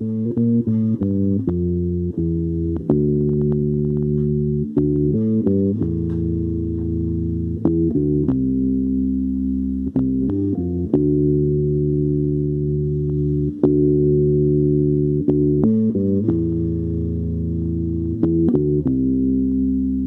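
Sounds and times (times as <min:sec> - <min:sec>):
electric bass guitar fingerstyle: 0:00.0 - 0:20.0.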